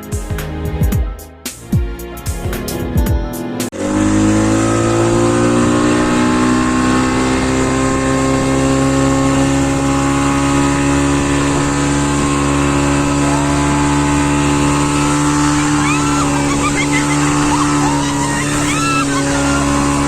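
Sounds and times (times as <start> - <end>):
speedboat engine running: 3.7 - 20.0.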